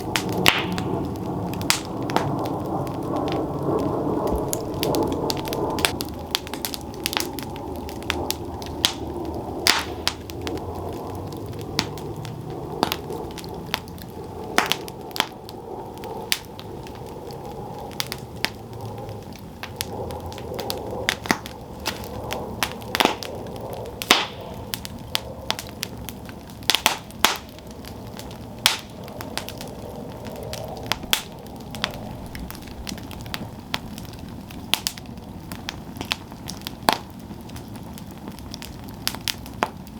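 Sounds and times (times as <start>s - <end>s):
campfire flames rushing: 0.0s - 39.9s
wood crackling and popping: 0.0s - 39.9s.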